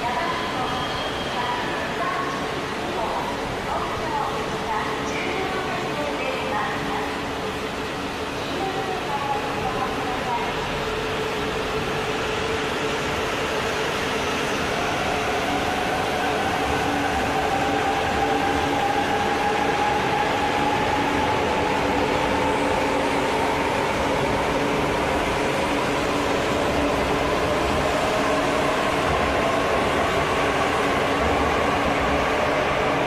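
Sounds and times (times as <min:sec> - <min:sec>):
rumble of wheels on rail: 0:00.0 - 0:33.0.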